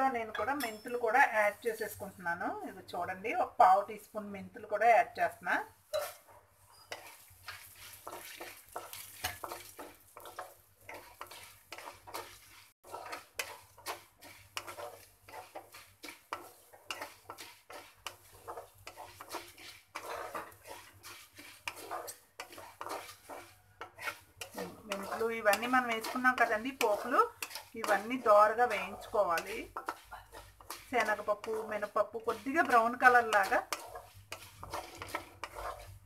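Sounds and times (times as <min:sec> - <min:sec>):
oil sizzling: 0:00.0 - 0:36.0
spatula scraping a pan: 0:05.8 - 0:36.0.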